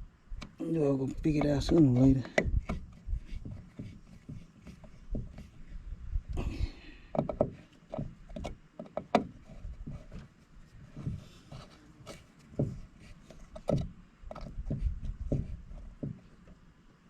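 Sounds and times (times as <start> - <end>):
knocks clicks and rubbing: 0.4 - 5.6, 7.1 - 16.6.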